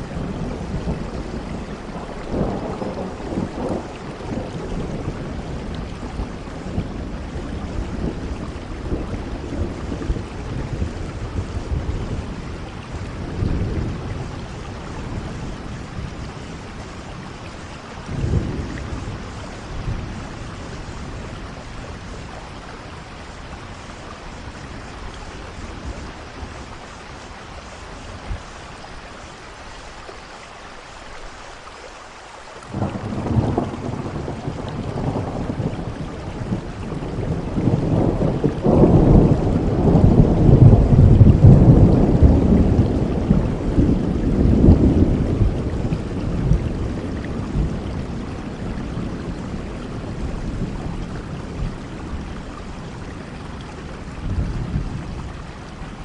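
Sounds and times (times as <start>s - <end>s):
thunder rumbling: 0.0s - 29.4s, 32.7s - 56.0s
heavy rain: 0.0s - 56.0s.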